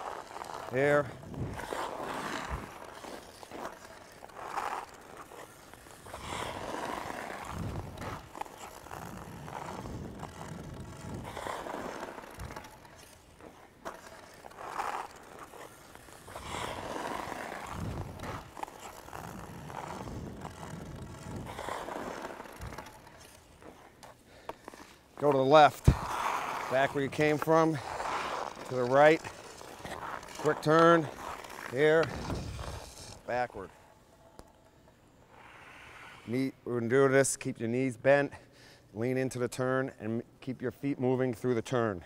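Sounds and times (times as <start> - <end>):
skate blades scraping on ice: 0.0 - 37.2.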